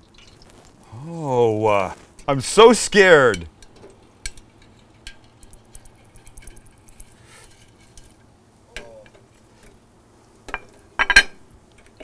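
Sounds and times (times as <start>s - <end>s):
hot oil sizzling in fryer: 0.0s - 11.5s.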